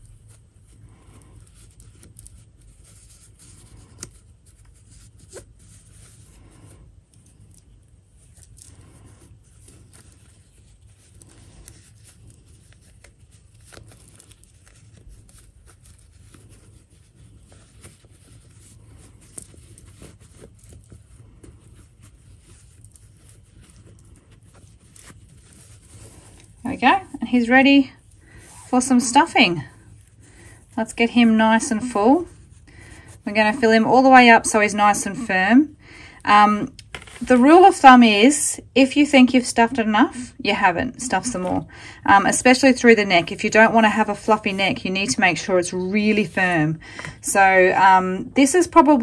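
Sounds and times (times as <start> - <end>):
fabric rustling and rubbing: 0.0 - 49.0.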